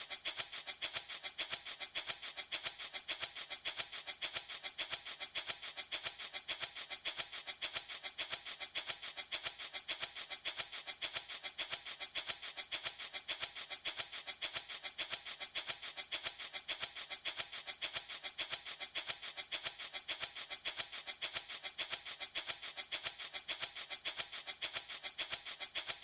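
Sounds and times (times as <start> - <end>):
baby rattle shaking: 0.0 - 26.0.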